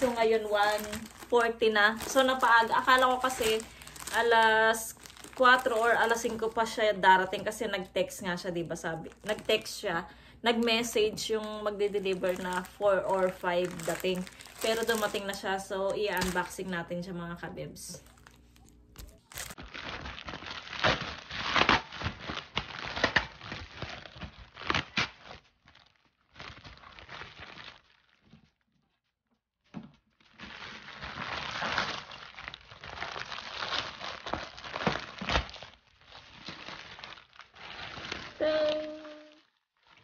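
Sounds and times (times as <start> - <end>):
plastic mailer bag crinkling: 0.0 - 28.6, 30.2 - 40.0.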